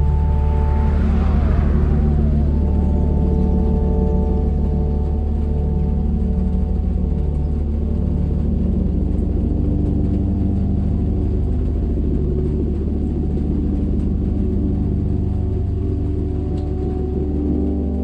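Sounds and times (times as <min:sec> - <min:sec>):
ambient droning music: 0:00.0 - 0:18.0.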